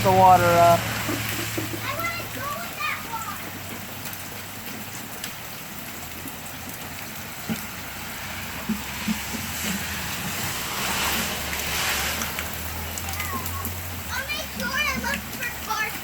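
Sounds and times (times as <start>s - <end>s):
tyres hissing through water: 0.0s - 5.2s, 5.8s - 16.0s
heavy rain on street: 0.0s - 16.0s
vehicle engine rumble: 0.0s - 16.0s.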